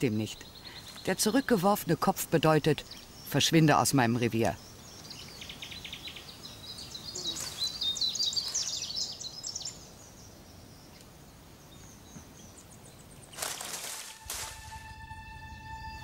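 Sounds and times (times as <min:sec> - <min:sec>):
birds chirping: 0:00.0 - 0:16.0
faint forest ambience hiss: 0:00.0 - 0:16.0.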